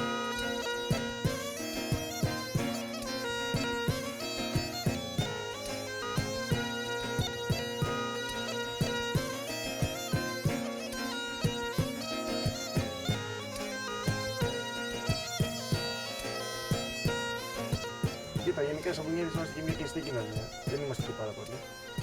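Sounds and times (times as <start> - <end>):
bagpipe playing lively tune: 0.0 - 22.0
beat of sharp strikes: 0.0 - 22.0.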